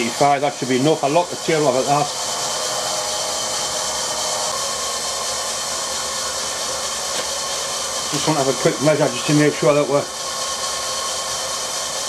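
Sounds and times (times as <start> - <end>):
milling machine hissing: 0.0 - 12.0.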